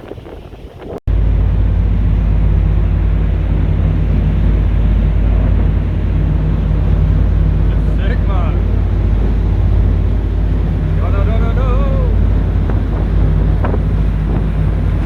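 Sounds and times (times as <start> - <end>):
boat engine rumbling: 0.0 - 15.0
wind on microphone: 0.0 - 15.0.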